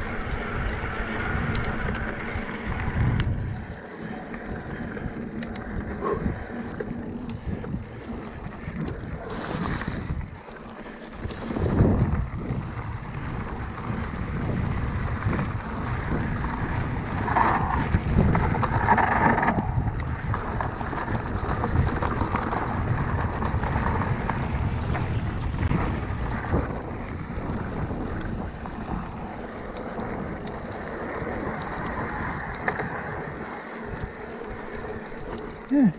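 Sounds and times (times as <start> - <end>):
bike knocking and rattling: 0.0 - 35.9
bike tyres rolling on gravel: 0.0 - 35.9
wind over microphone: 0.0 - 35.9.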